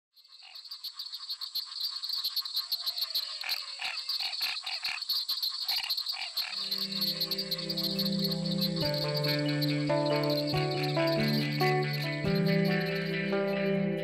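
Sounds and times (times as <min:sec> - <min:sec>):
frogs calling: 0:00.1 - 0:14.0
insects droning: 0:00.2 - 0:14.0.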